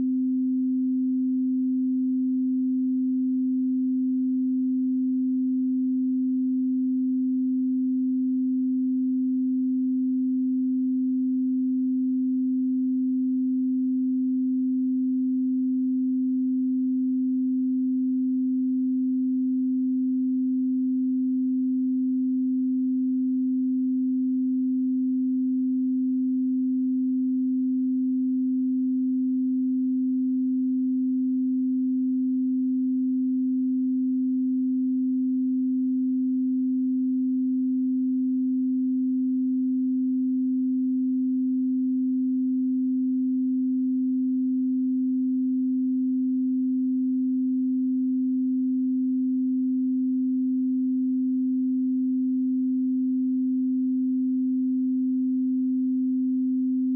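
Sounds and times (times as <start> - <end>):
steady pure sine tone: 0.0 - 56.9.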